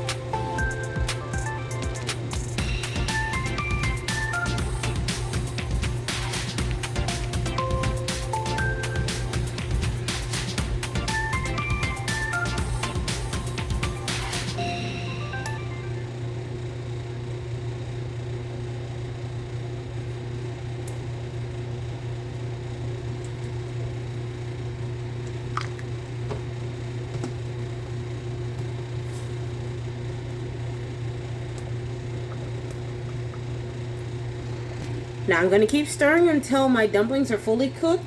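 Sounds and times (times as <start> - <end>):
low appliance hum: 0.0 - 38.0.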